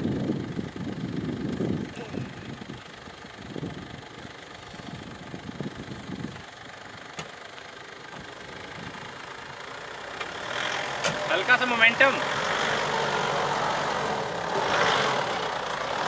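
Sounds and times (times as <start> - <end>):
diesel engine idling: 0.0 - 16.0
low engine rumble: 0.0 - 16.0.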